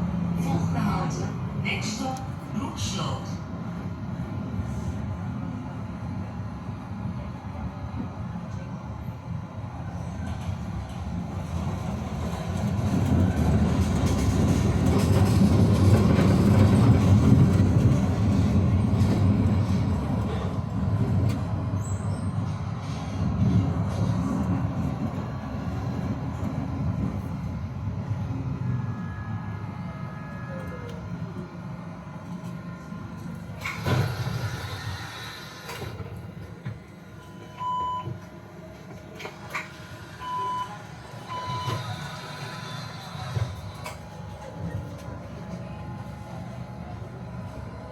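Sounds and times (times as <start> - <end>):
tram rumbling on rails: 0.0 - 47.9.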